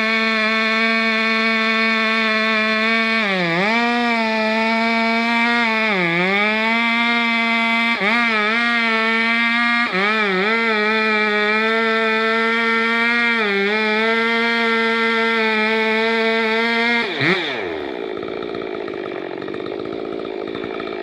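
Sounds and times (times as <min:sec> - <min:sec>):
chainsaw cutting at full throttle: 0:00.0 - 0:21.0.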